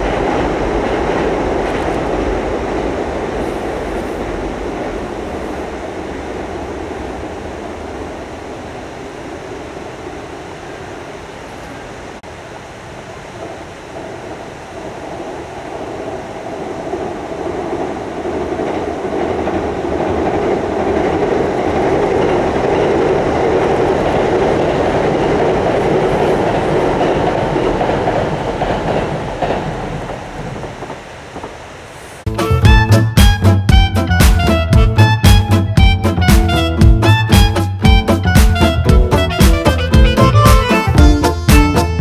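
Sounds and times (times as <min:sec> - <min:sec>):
train wheels rumbling over bridge: 0:00.0 - 0:12.0, 0:12.7 - 0:42.0.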